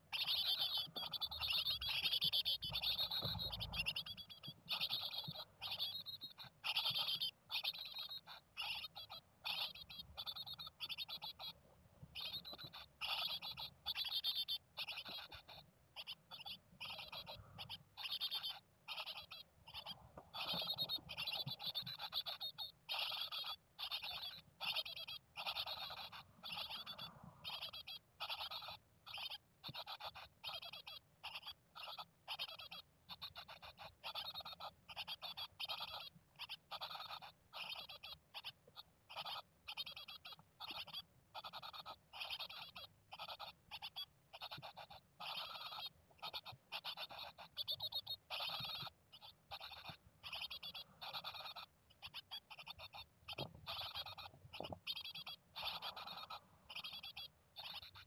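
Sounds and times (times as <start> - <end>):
nestlings chirping: 0.0 - 58.0.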